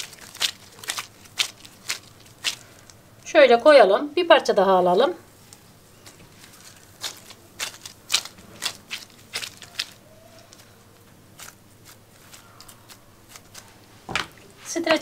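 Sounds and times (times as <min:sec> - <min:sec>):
plastic film crinkling: 0:00.0 - 0:03.3, 0:05.4 - 0:15.0.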